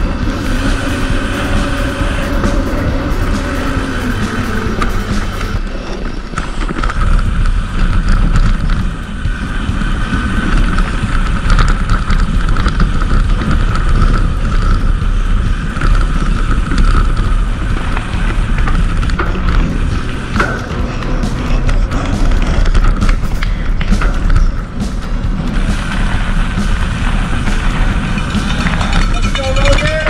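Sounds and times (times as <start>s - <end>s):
bike rumbling over dirt trail: 0.0s - 30.0s
wind on microphone: 0.0s - 30.0s.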